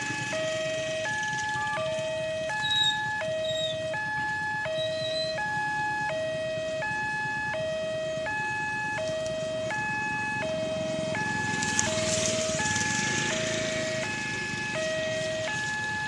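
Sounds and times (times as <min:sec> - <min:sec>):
level crossing two-tone alarm: 0:00.0 - 0:16.0
passing train rumble: 0:00.0 - 0:16.0.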